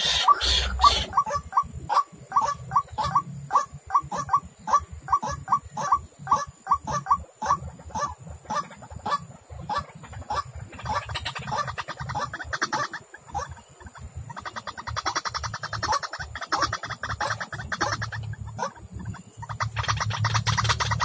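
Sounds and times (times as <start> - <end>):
bird honking calls: 0.0 - 21.0.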